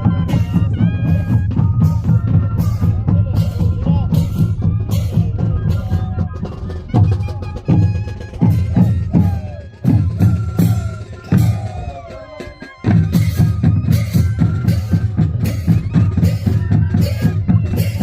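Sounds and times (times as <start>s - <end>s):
bass and snare drums beating: 0.0s - 18.0s
cane flutes: 0.0s - 18.0s.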